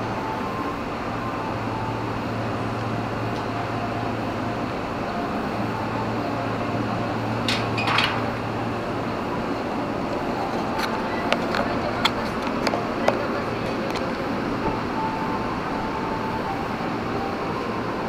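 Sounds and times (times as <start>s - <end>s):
air conditioning hum: 0.0s - 18.0s
train carriage running noise: 0.0s - 18.0s.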